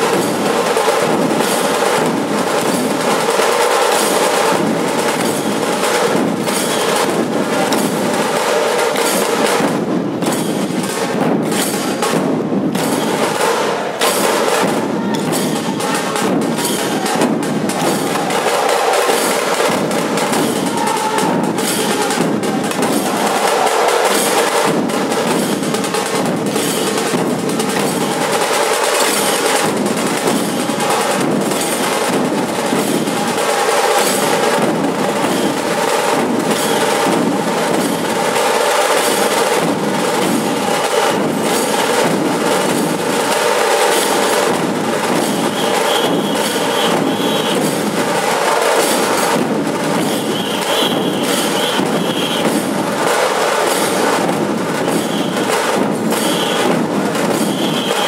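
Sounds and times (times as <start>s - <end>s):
barrel drums beating: 0.0s - 58.0s
brass cymbals clashing: 0.0s - 58.0s
kettle drums beaten with sticks: 0.0s - 58.0s.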